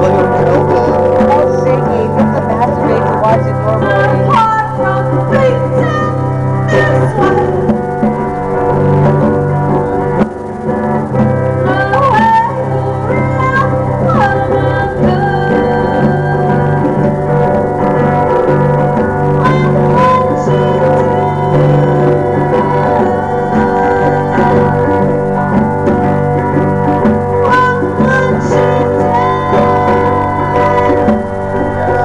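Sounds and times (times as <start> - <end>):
person singing: 0.0 - 9.1, 11.2 - 26.2, 27.4 - 32.0
congas: 0.0 - 32.0
electric guitar: 0.0 - 32.0.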